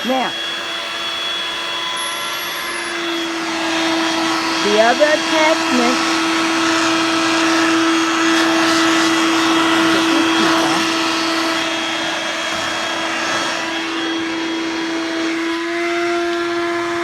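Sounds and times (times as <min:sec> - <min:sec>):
vacuum cleaner motor whining: 0:00.0 - 0:17.0.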